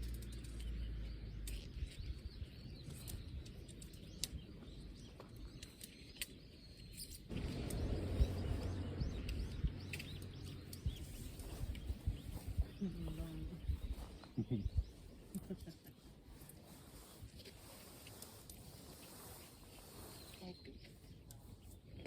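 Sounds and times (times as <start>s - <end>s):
wind rumble on microphone: 0.0s - 5.2s, 7.3s - 22.0s
bird chirps: 0.0s - 22.0s.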